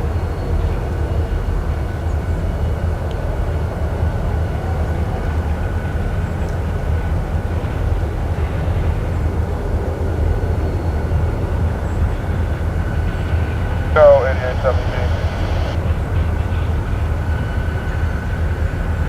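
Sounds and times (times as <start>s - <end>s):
faint high whine: 0.0s - 19.0s
locomotive engine low rumble: 0.0s - 19.0s.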